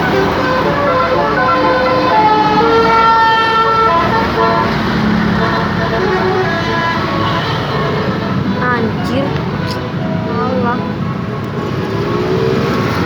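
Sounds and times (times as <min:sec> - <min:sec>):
multi-tone musical bus horn: 0:00.0 - 0:13.0
road noise: 0:00.0 - 0:13.0.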